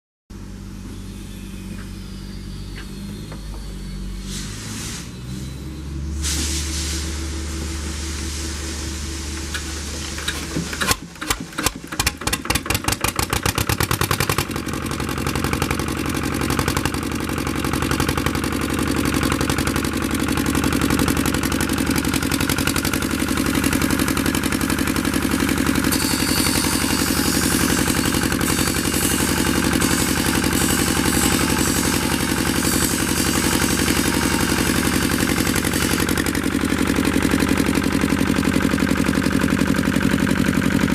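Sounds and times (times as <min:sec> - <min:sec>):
diesel engine starting and running: 0:00.3 - 0:40.9.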